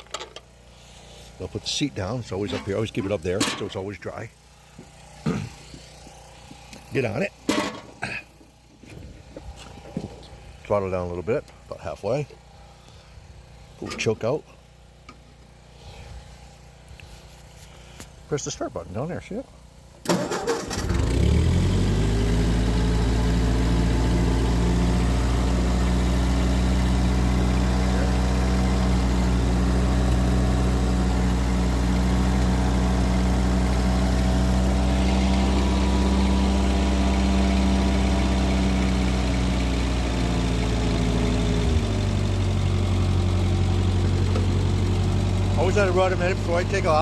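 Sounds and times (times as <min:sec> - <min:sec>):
tractor engine idling: 0:00.0 - 0:18.6, 0:19.2 - 0:47.0.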